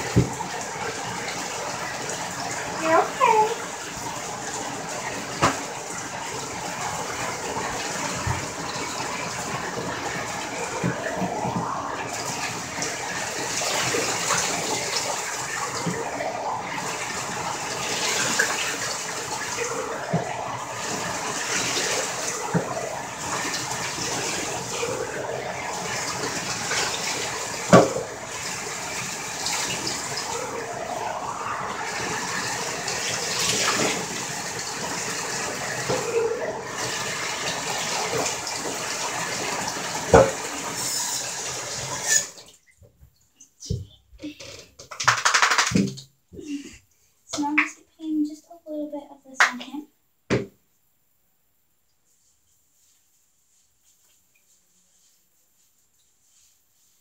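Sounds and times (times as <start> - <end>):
tap water filling bathtub: 0.0 - 47.8.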